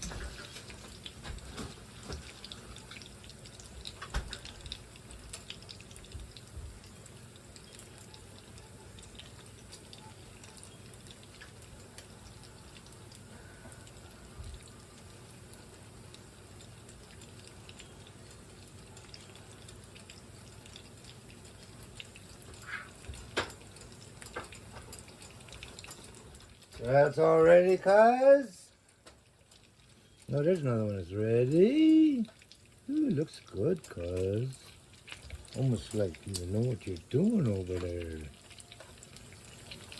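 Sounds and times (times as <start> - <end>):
pots bubbling on a stove: 0.0 - 39.9.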